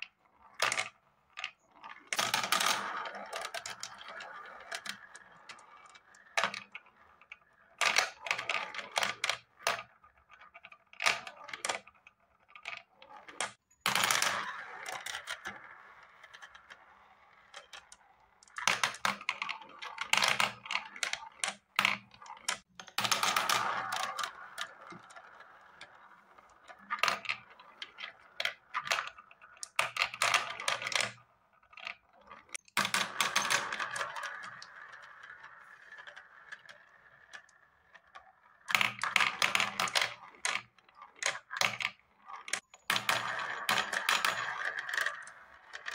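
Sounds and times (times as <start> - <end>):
plastic balls rattling on spiral track: 0.0 - 45.9.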